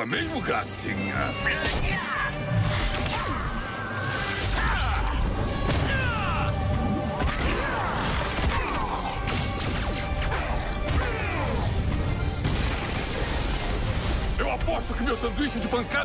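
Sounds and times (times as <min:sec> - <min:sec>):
action movie background music: 0:00.0 - 0:16.0.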